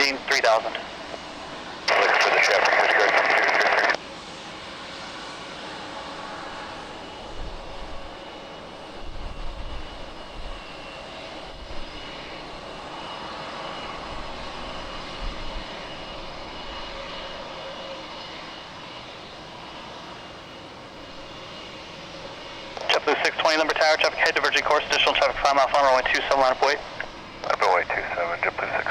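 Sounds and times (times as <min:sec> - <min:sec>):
airliner engine rush: 0:00.0 - 0:28.9.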